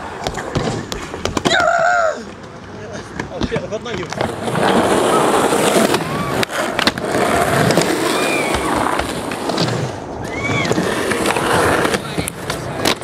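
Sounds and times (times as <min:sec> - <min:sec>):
skateboard clacks and knocks: 0:00.0 - 0:13.0
skateboard wheels rolling on concrete: 0:00.0 - 0:13.0.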